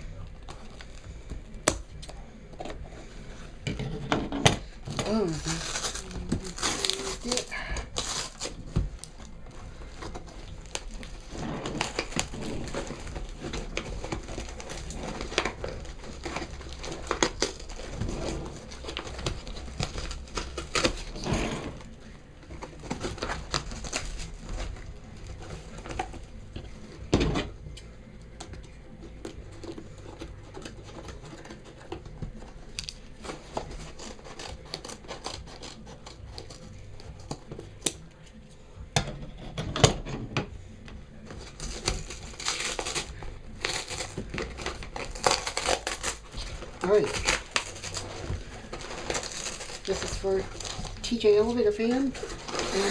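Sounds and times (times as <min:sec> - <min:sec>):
packing material crinkling: 0:04.8 - 0:27.1, 0:29.2 - 0:38.3, 0:41.2 - 0:52.9.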